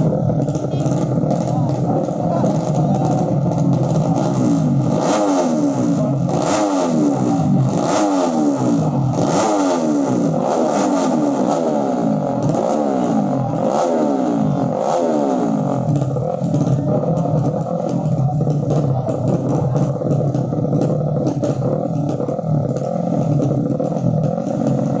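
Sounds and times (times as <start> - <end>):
motorcycle engines revving hard: 0.0 - 25.0.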